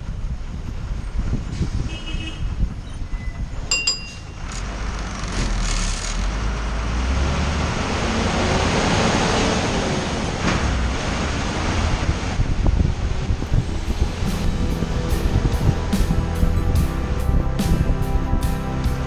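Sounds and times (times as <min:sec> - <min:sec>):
road noise: 0:00.0 - 0:19.0
bus diesel engine running: 0:02.7 - 0:19.0.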